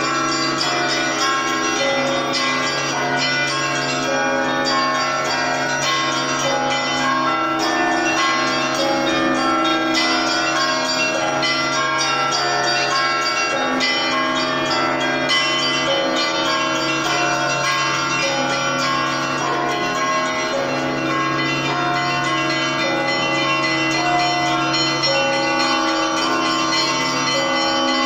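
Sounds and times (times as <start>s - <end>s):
large bell humming: 0.0s - 28.0s
small church bells ringing: 0.0s - 28.0s.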